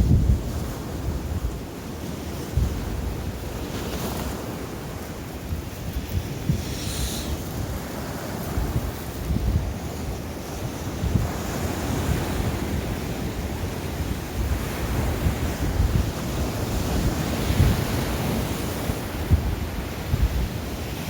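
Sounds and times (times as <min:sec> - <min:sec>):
waves breaking: 0:00.0 - 0:21.0
wind buffeting microphone: 0:00.0 - 0:21.0.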